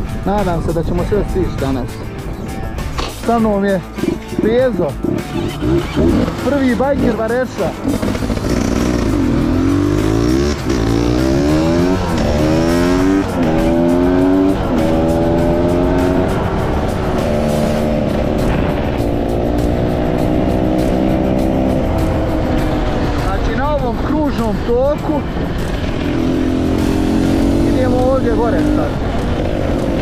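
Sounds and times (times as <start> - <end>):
motorcycle engine accelerating: 4.0 - 30.0.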